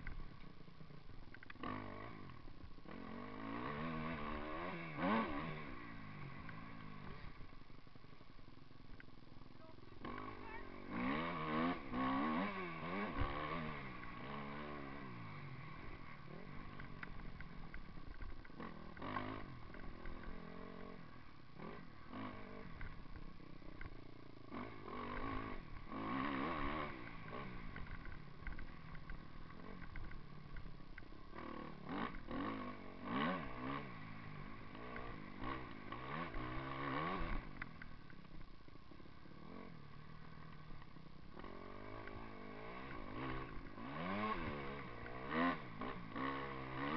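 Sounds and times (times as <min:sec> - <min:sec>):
motocross bike engine revving: 0:00.0 - 0:08.2, 0:09.0 - 0:38.5, 0:39.2 - 0:46.9.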